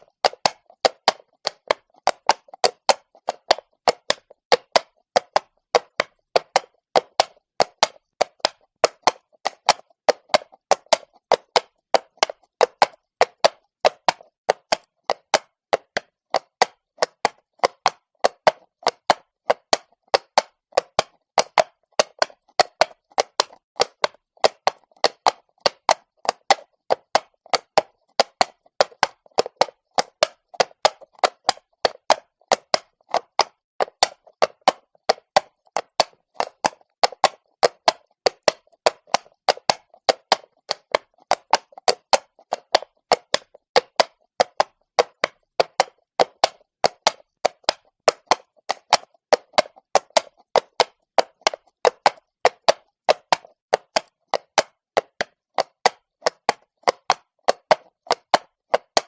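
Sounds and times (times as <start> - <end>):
horse hooves on cobblestones: 0.0 - 59.0.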